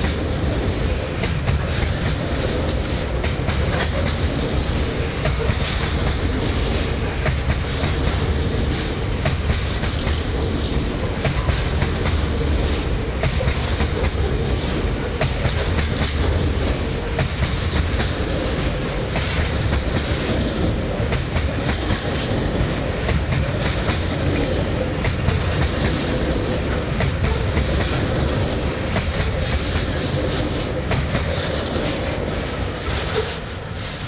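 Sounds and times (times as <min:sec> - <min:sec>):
train wheels clattering over rail joints: 0:00.0 - 0:33.6.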